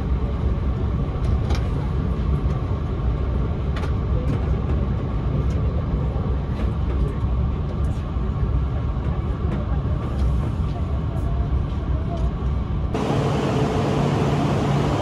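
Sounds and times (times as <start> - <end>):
train running rumble from inside: 0.0 - 15.0.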